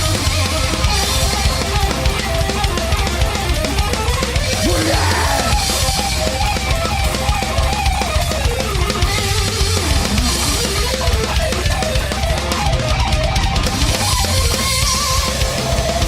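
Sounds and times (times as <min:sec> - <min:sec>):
distorted electric guitar riff: 0:00.0 - 0:16.0
rapid drumming: 0:00.0 - 0:16.0.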